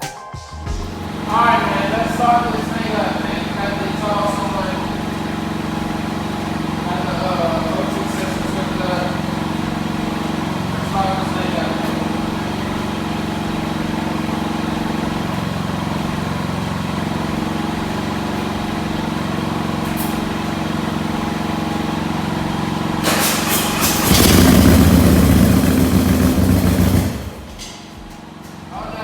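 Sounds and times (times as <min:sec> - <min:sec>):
motorcycle engine running: 0:00.8 - 0:28.9.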